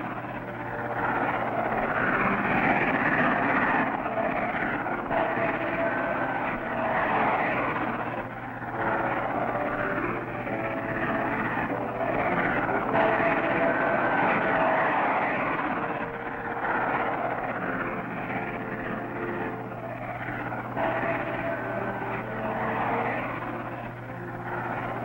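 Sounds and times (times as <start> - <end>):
steam train running past: 0.0 - 25.0.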